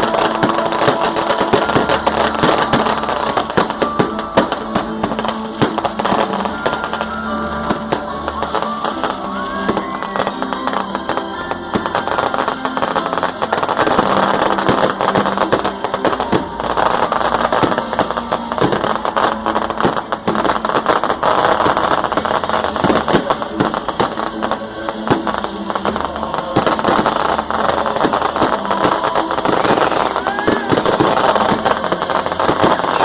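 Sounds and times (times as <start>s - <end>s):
fireworks crackling and popping: 0.0s - 33.0s
music playing: 0.0s - 33.0s.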